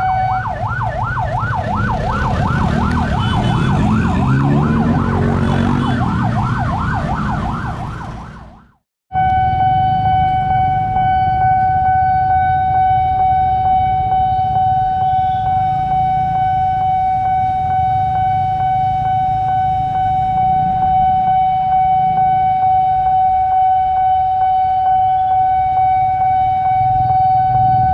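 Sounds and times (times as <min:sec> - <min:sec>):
warbling siren wail: 0:00.0 - 0:27.9.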